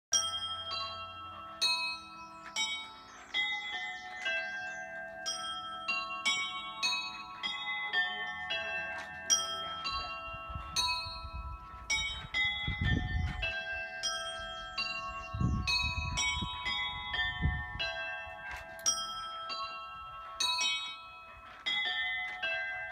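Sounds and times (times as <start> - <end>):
church bells ringing: 0.1 - 22.9.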